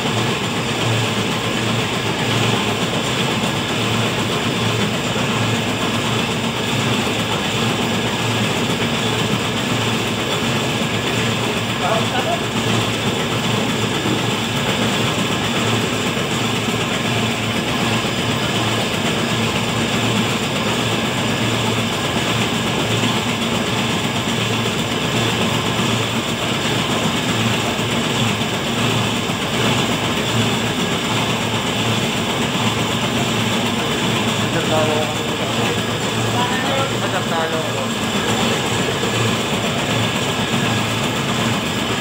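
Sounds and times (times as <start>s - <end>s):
engine and suction pump running: 0.0s - 42.0s.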